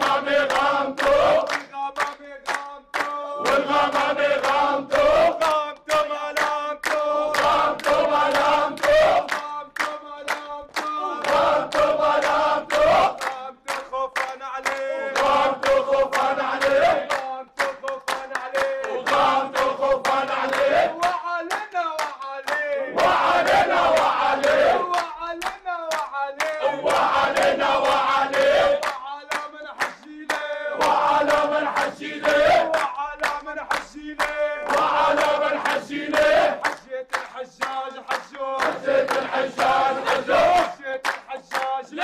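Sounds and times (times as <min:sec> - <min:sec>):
men chanting and singing: 0:00.0 - 0:42.0
rhythmic hand-clapping: 0:00.0 - 0:42.0.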